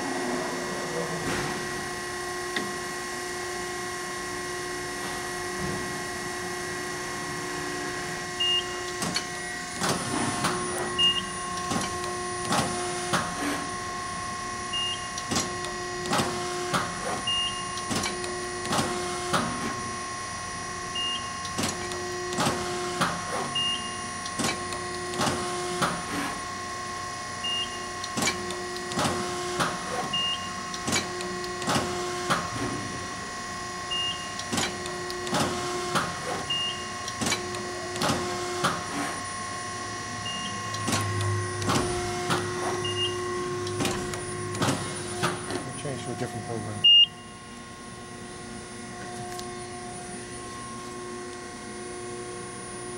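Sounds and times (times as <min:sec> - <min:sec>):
motor tone: 0:00.0 - 0:25.8, 0:26.4 - 0:52.9
hydraulic hum: 0:00.0 - 0:52.9.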